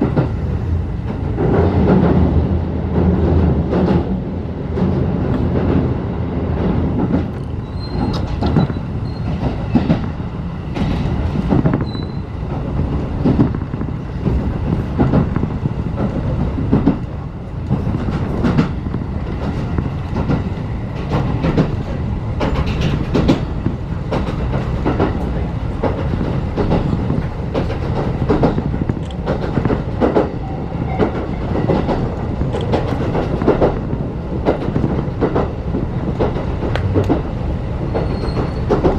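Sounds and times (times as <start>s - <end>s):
train running gear rumble: 0.0s - 38.9s
wheels clicking over rail joints: 6.7s - 38.9s.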